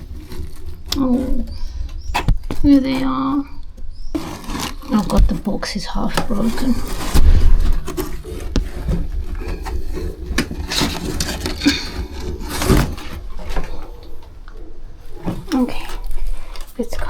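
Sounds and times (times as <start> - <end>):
box scraping and rustling: 0.0 - 17.0
handling rumble near microphone: 0.0 - 17.0.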